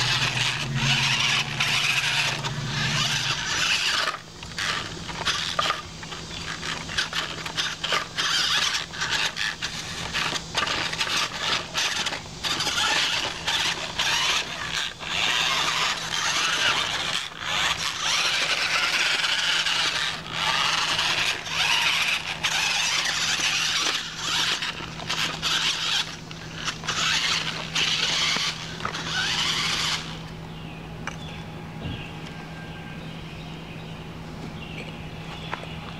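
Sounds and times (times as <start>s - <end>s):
toy car motor whirring: 0.0s - 30.6s
steady low hum: 0.0s - 35.9s.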